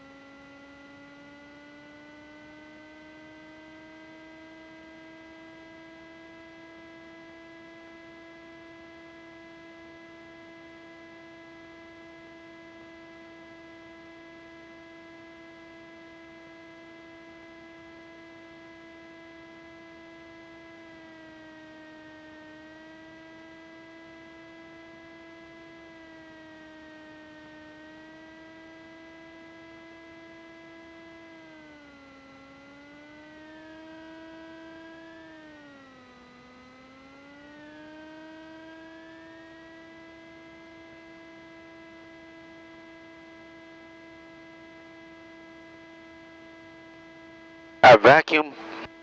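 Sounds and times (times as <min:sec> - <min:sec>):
twin aircraft engines running: 0:00.0 - 0:31.4, 0:38.6 - 0:49.0.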